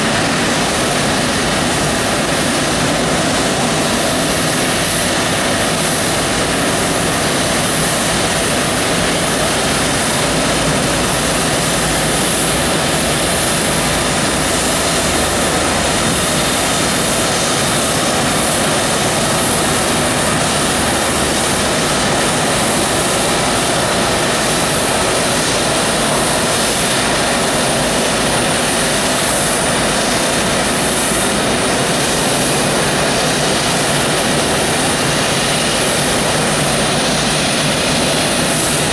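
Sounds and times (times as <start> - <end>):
jet engines at taxi power: 0.0 - 38.9.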